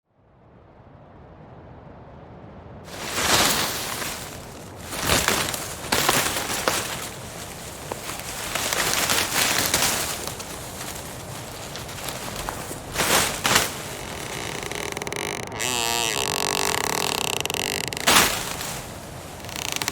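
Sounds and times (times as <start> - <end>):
forest ambience: 2.9 - 19.9
wood cracking and splintering: 2.9 - 19.9.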